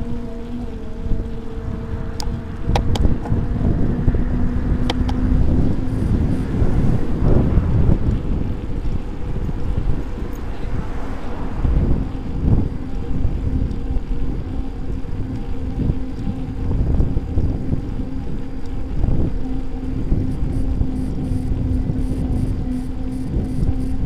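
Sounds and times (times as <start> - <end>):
steady low hum: 0.0 - 24.0
wind noise on microphone: 0.0 - 24.0.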